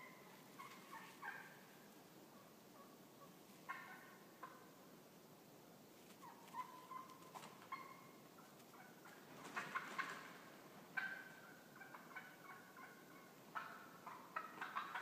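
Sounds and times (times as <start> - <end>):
wild turkeys calling: 0.0 - 4.8, 6.1 - 15.0.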